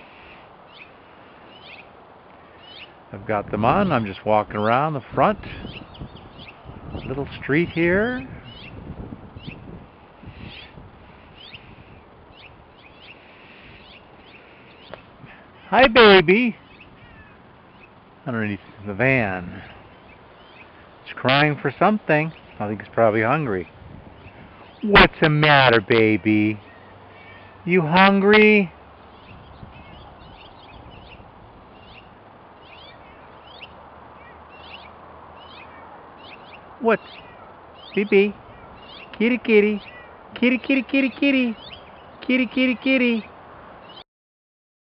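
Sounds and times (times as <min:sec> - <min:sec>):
birds chirping: 0:00.0 - 0:44.0
steady background hiss: 0:00.0 - 0:44.0.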